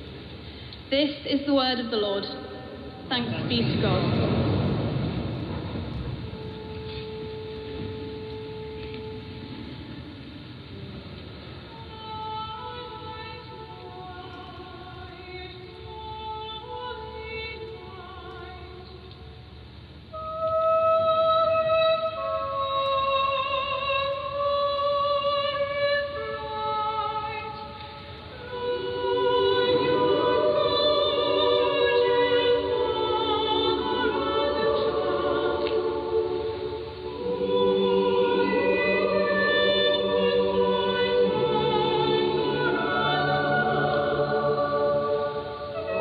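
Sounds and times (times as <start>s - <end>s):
choir singing over muffled radio: 1.6s - 19.3s, 20.1s - 46.0s.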